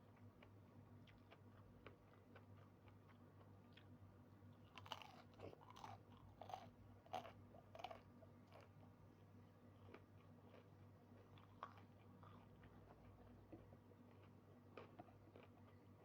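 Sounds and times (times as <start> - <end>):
person chewing crunchy food: 0.1 - 3.9, 4.6 - 8.8, 9.8 - 16.0.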